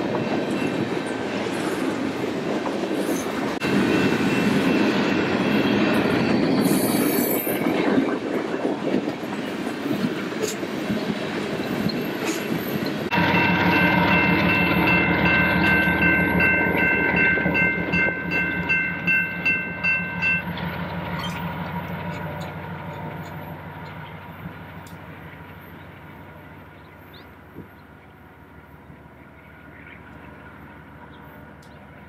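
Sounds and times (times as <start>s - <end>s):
diesel locomotive engine hum: 0.0s - 32.0s.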